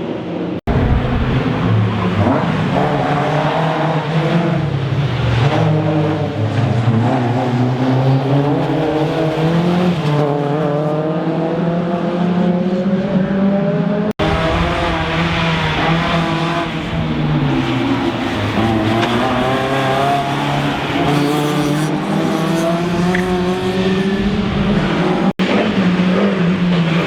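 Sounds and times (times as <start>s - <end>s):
rally car engine revving: 0.7s - 27.0s.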